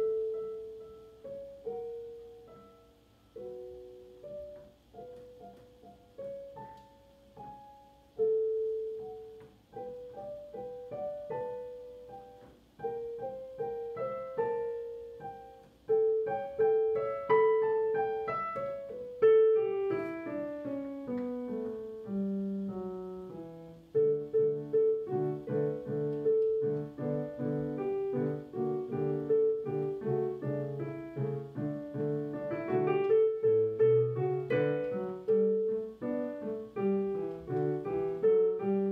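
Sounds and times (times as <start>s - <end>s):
solo piano dance piece: 0.0s - 38.9s.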